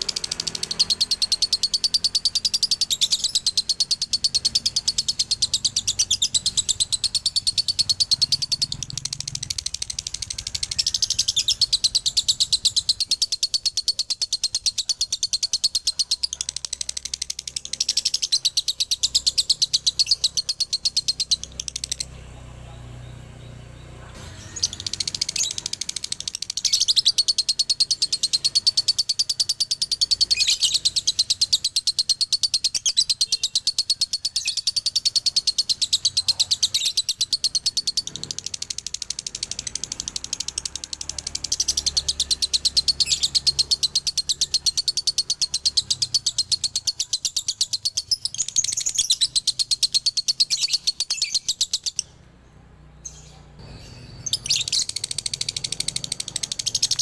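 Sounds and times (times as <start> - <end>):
lovebird chattering song: 0.0 - 52.3, 52.9 - 57.0.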